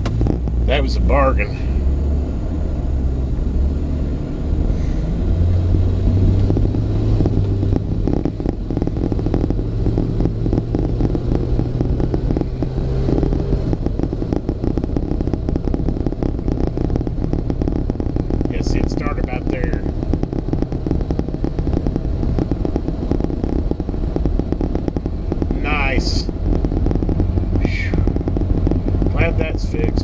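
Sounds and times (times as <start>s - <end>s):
low engine hum: 0.0s - 30.0s
tyre and road noise: 0.0s - 30.0s.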